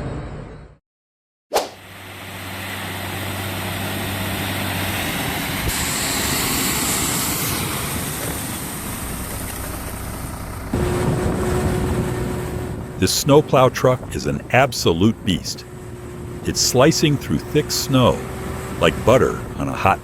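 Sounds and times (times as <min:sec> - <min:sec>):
road and wind noise: 0:01.7 - 0:20.0
heavy truck engine: 0:01.8 - 0:20.0.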